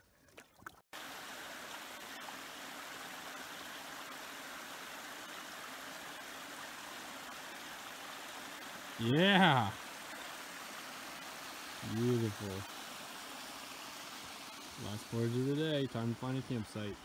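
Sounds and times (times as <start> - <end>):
stream rushing over rocks: 1.0 - 17.0.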